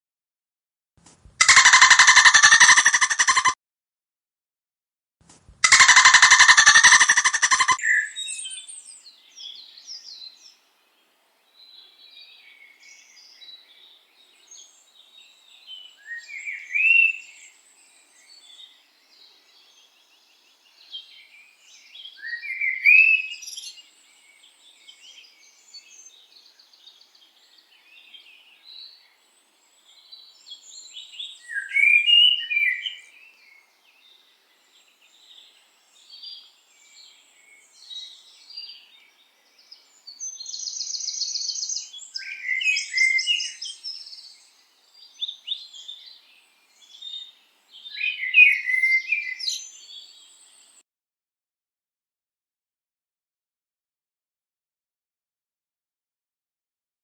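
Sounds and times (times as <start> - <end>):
birds chirping: 1.5 - 3.6, 5.7 - 10.6, 11.5 - 50.8.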